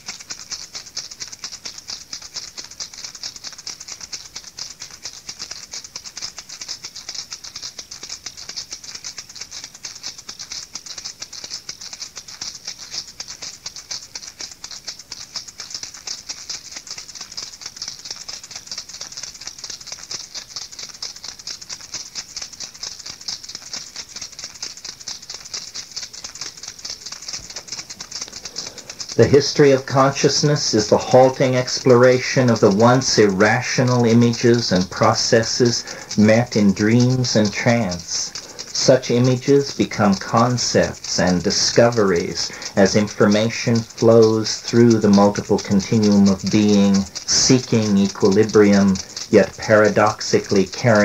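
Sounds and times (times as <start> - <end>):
dry rattling: 0.0 - 51.0.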